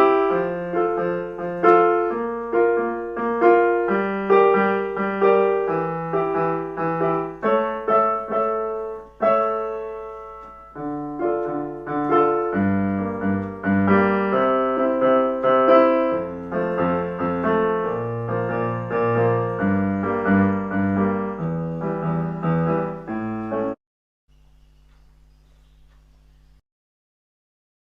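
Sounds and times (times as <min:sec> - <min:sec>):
solo piano music: 0:00.0 - 0:23.8.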